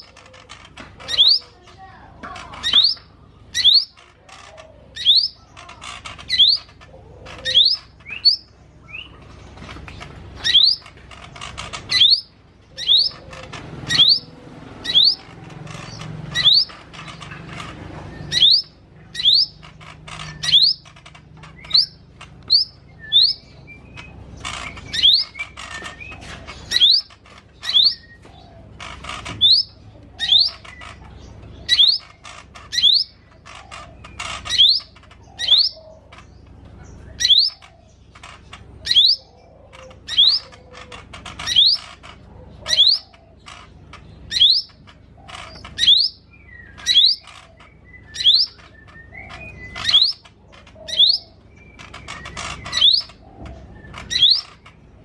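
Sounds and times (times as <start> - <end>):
bird chattering phrases: 0.0 - 55.0.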